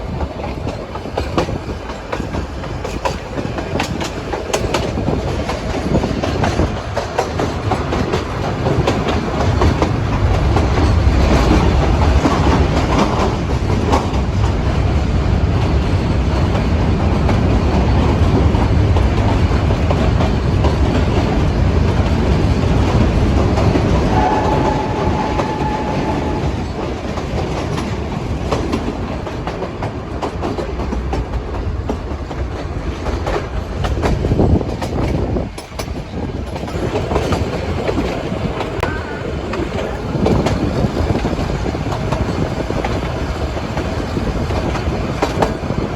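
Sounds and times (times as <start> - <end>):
train rumbling: 0.0 - 45.9
wheels clacking on rail joints: 0.0 - 45.9.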